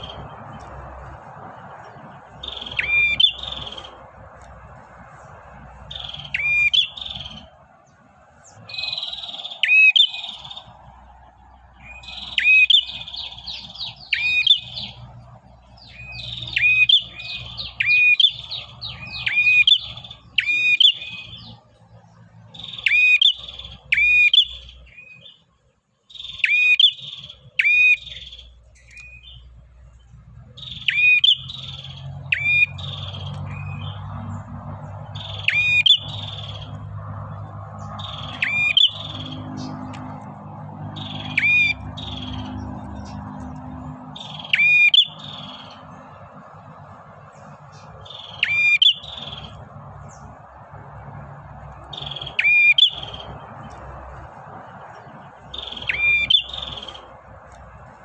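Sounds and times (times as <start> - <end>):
songbird high chattering chirps: 0.0 - 1.1, 1.7 - 25.4, 26.1 - 57.8.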